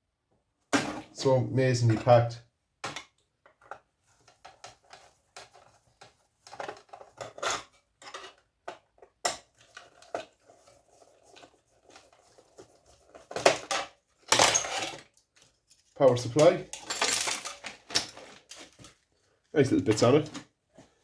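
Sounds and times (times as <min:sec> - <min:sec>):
plastic and metal parts clattering: 0:02.8 - 0:21.0.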